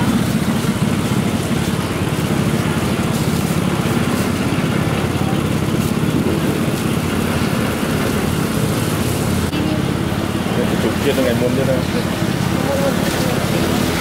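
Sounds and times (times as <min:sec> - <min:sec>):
small engine running: 0:00.0 - 0:14.0
street traffic: 0:00.0 - 0:14.0.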